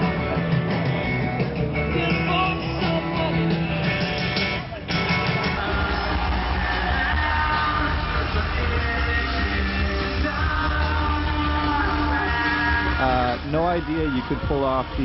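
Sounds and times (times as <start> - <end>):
rock music with guitar and singing: 0.0 - 15.0.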